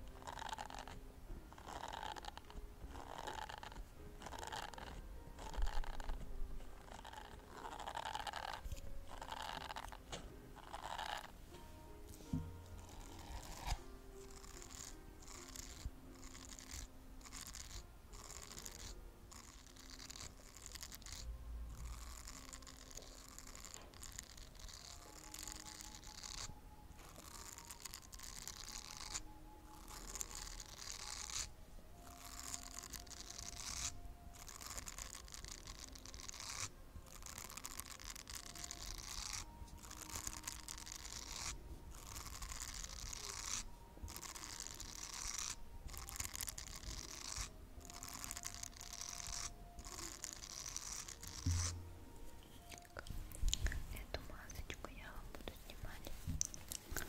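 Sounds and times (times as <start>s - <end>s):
scratchy brushing strokes: 0.0s - 57.0s.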